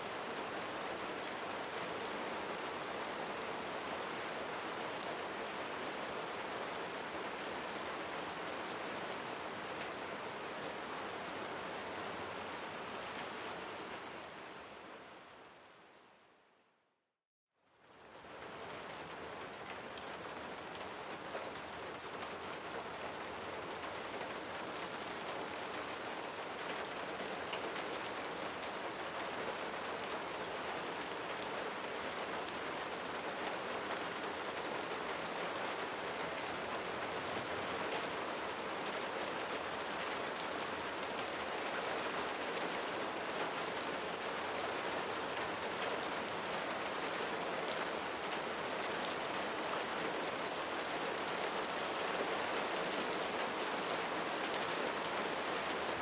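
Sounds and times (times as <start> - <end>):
heavy rain on leaves: 0.0 - 15.9, 17.9 - 56.0.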